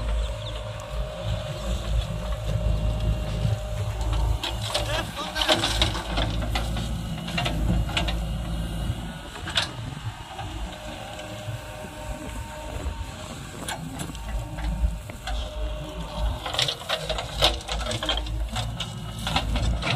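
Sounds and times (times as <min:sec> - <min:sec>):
diesel engine rumble: 0:00.0 - 0:19.9.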